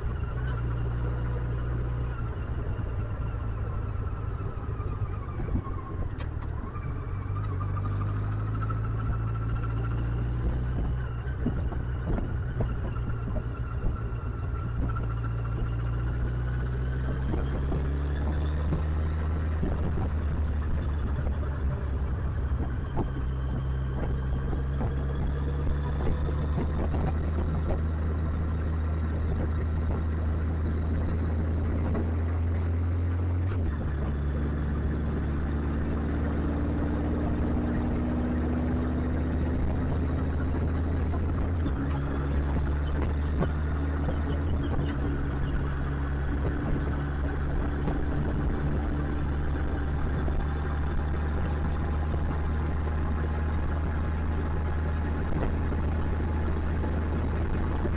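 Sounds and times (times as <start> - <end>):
motorcycle engine running: 0.0 - 57.9
road and wind noise: 0.0 - 57.9.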